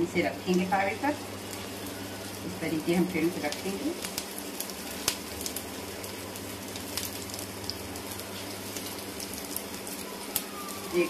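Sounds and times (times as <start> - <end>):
patties sizzling in hot oil: 0.0 - 11.0
oil popping and crackling: 0.4 - 11.0.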